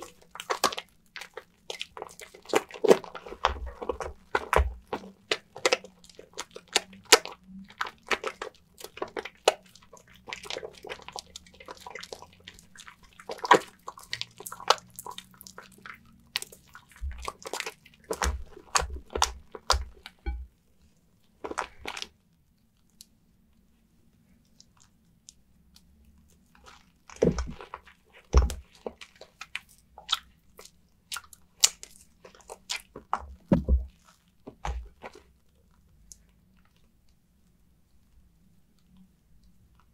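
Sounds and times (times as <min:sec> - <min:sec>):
wet soap crackling and squelching: 0:00.0 - 0:39.9.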